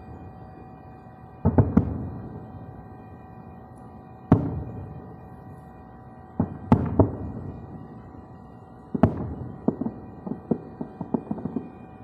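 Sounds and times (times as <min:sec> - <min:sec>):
distant fireworks bursting: 0:00.0 - 0:12.0.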